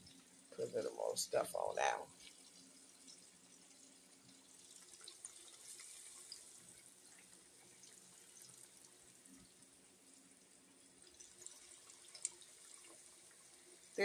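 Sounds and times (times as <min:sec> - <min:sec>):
tomato slices sizzling in oil: 0:00.0 - 0:14.0.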